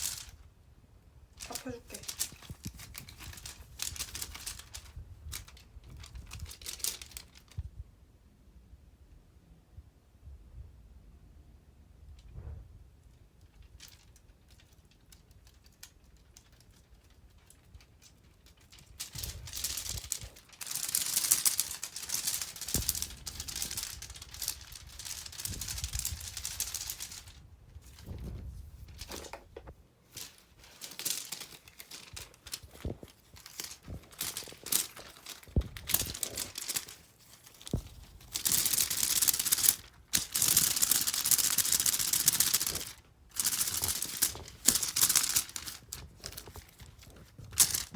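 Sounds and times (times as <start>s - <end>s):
rustling and crinkling: 0.0s - 0.6s, 1.3s - 7.8s, 12.2s - 47.9s.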